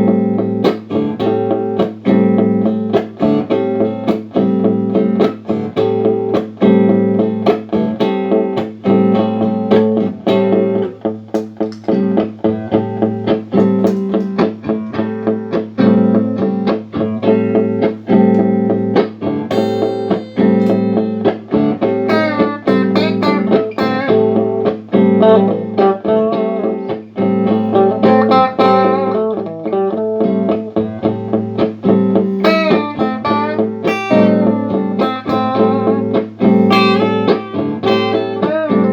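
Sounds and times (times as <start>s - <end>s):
high guitar notes: 0.0s - 38.9s
looped plucked guitar pattern: 0.0s - 38.9s.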